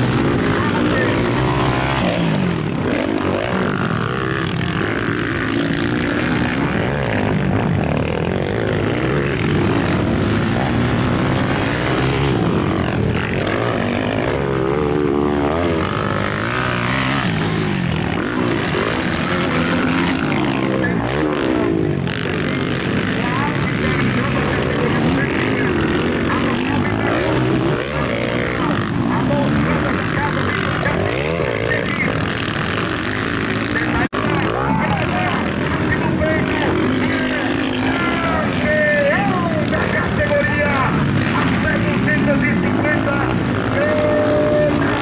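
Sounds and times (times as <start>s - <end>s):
dirt bike engines racing: 0.0s - 45.0s.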